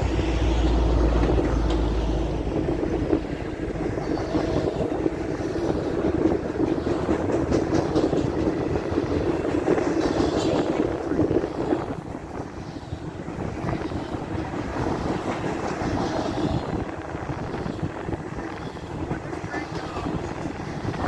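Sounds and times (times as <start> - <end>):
freight train rumble and clatter: 0.0 - 21.0.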